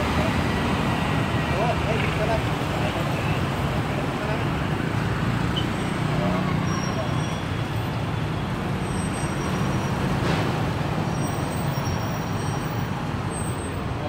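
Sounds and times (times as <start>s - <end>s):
motorbikes and cars passing: 0.0s - 14.0s.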